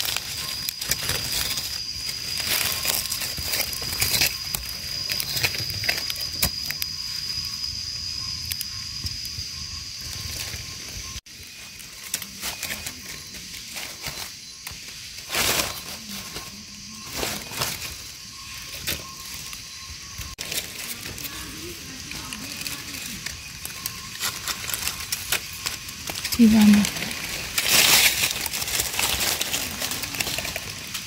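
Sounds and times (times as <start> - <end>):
dry leaves rustling and crackling: 0.0 - 8.6, 9.9 - 31.0.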